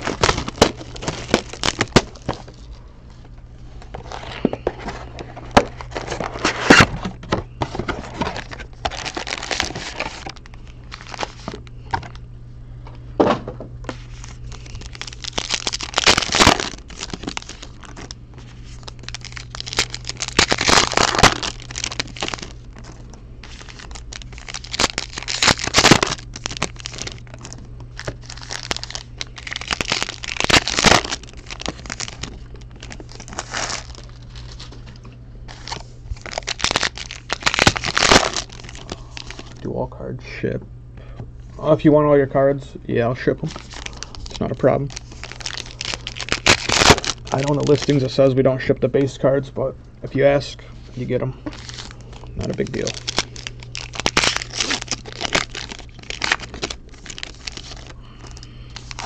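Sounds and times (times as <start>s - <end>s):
card wrappers ripping and crinkling: 0.0s - 2.8s, 3.7s - 12.2s, 13.9s - 39.6s, 43.2s - 48.3s, 50.9s - 59.0s
steady low hum: 0.0s - 59.0s.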